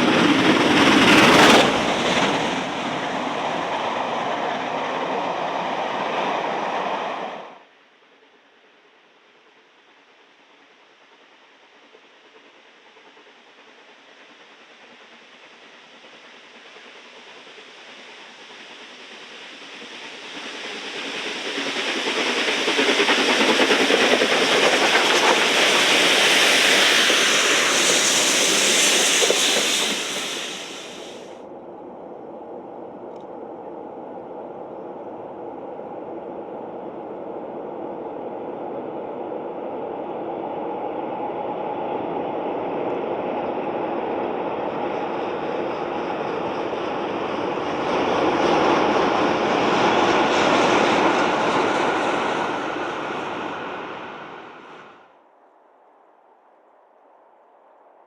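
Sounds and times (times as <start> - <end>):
train passing: 0.0 - 55.4.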